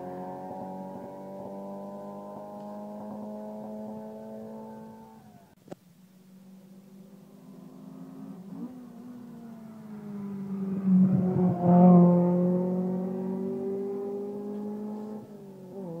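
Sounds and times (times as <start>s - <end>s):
rally car engine passing: 0.0s - 5.6s, 6.9s - 16.0s.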